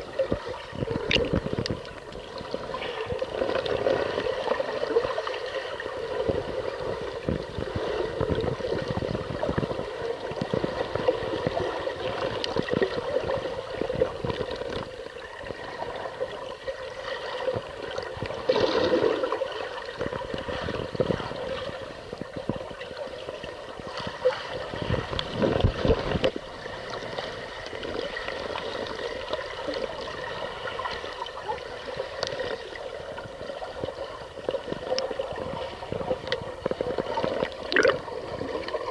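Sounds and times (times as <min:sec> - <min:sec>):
muffled water sloshing underwater: 0:00.0 - 0:38.9.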